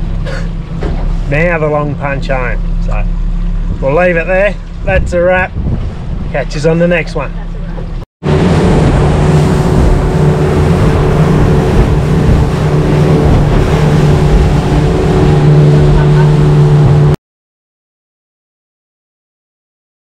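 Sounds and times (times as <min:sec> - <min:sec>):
motorboat engine running: 0:00.0 - 0:17.2
rush of wind and water: 0:00.0 - 0:17.2.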